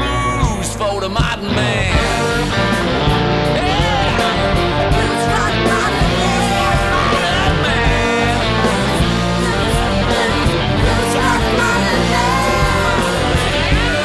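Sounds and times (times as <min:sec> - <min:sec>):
blues-rock band music: 0:00.0 - 0:14.0
electric guitar: 0:00.0 - 0:14.0.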